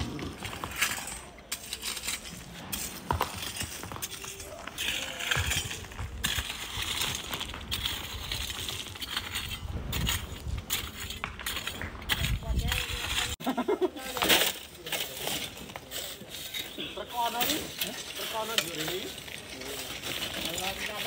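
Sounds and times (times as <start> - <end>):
gritty scraping: 0.0 - 21.0
metal tool digging gravel: 0.0 - 21.0
stones clinking: 0.0 - 21.0.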